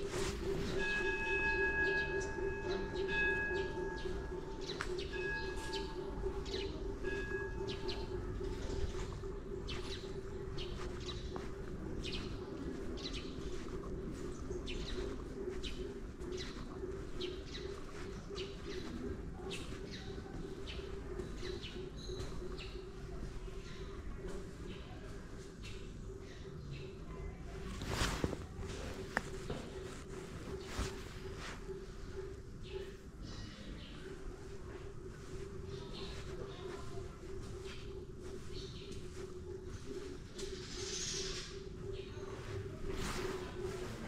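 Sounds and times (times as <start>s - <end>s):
small birds chirping: 0.0s - 44.0s
steady low hum: 0.0s - 44.0s.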